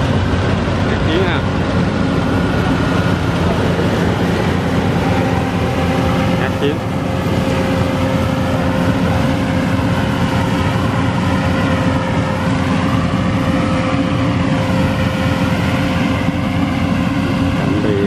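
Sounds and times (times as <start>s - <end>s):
combine harvester engine drone: 0.0s - 18.0s
steady tone: 0.0s - 18.0s.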